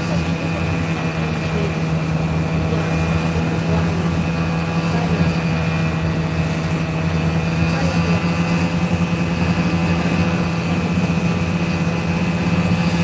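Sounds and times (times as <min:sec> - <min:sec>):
snowmobile engine droning: 0:00.0 - 0:13.0.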